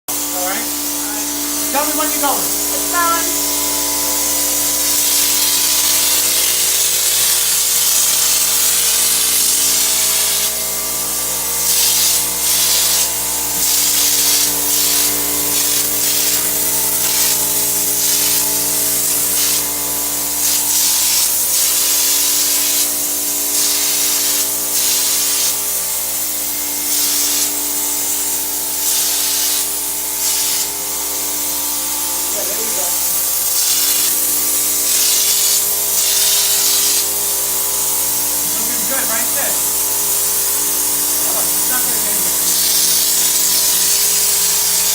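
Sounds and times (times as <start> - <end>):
texture sprayer hissing: 0.1 - 44.9.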